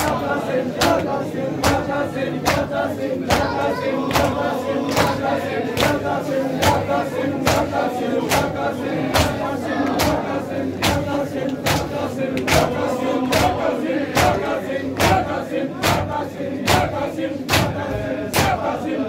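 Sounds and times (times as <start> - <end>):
crowd chanting: 0.0 - 19.0.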